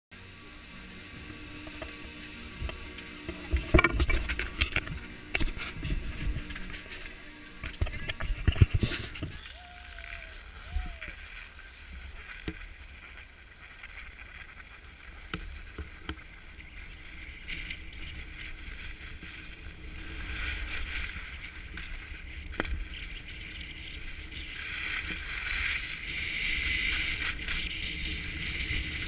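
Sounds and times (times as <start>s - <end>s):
skis scraping over snow: 0.2s - 29.0s
wind rumbling on microphone: 0.7s - 29.0s.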